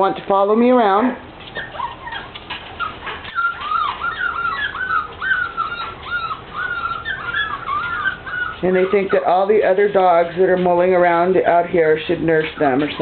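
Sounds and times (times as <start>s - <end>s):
puppies whimpering: 1.4s - 13.0s.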